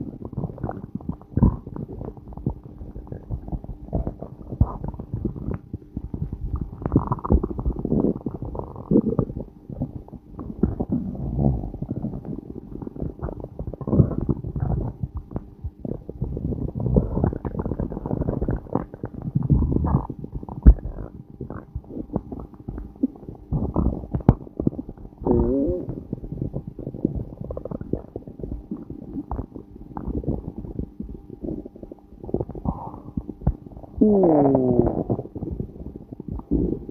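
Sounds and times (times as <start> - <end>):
stomach growling and gurgling: 0.0 - 36.9.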